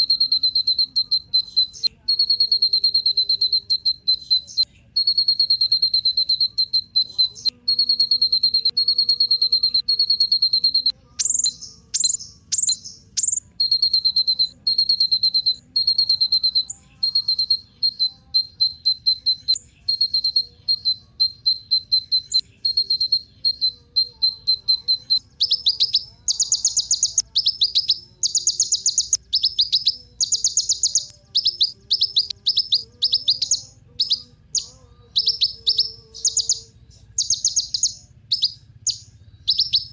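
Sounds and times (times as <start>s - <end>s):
fast bursts of chirps: 0.0s - 39.9s
sharp bird notes: 0.0s - 39.9s
sunbird buzzy trill: 0.0s - 39.9s.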